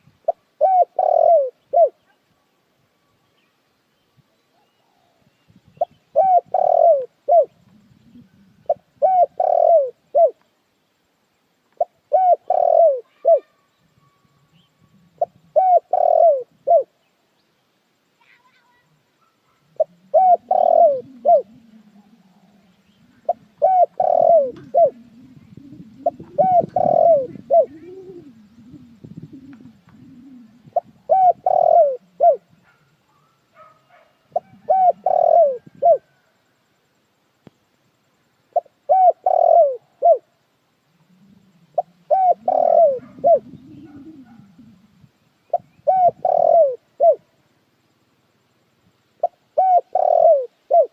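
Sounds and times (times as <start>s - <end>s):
dove cooing: 0.0s - 2.2s, 4.6s - 10.4s, 11.8s - 17.0s, 19.2s - 36.4s, 38.5s - 47.4s, 49.2s - 50.9s.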